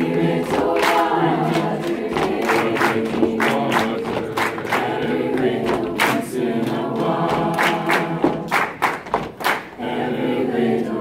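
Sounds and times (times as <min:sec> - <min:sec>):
hand claps and chest pats: 0:00.0 - 0:09.8
choir singing a cappella: 0:00.0 - 0:11.0.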